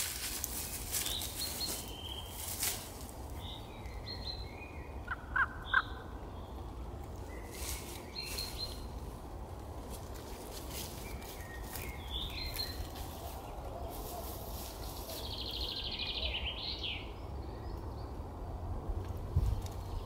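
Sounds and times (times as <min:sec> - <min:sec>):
small birds calling: 0:00.2 - 0:09.2, 0:10.2 - 0:18.5.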